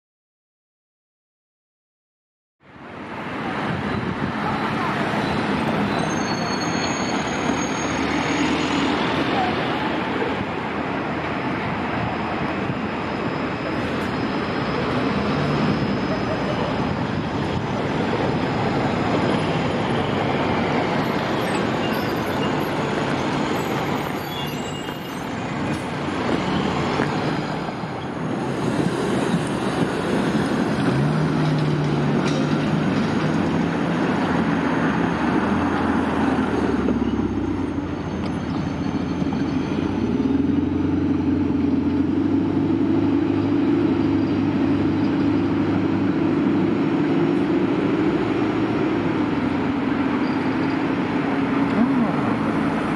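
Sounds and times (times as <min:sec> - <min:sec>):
cars passing: 0:02.7 - 0:52.9
trams running on tracks: 0:02.7 - 0:52.9.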